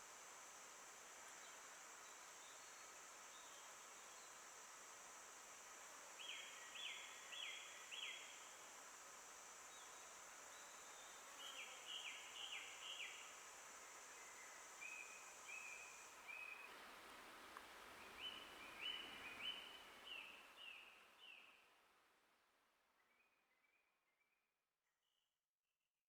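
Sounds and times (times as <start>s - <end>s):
steady high hiss: 0.0s - 21.7s.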